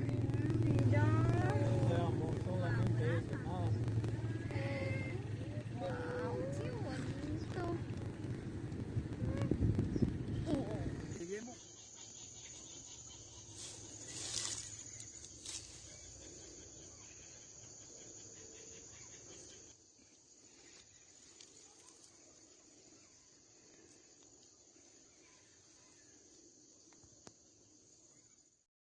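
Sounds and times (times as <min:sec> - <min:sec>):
insects buzzing: 0:00.0 - 0:28.6.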